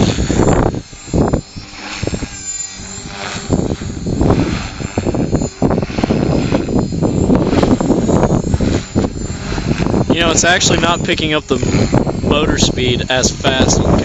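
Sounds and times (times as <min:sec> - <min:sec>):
gusty wind noise: 0:00.0 - 0:14.0
rc helicopter motor and rotor whine: 0:00.0 - 0:14.0.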